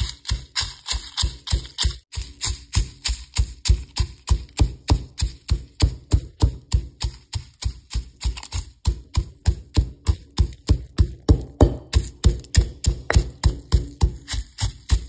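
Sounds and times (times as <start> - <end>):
stone pestle pounding in mortar: 0.0 - 15.0.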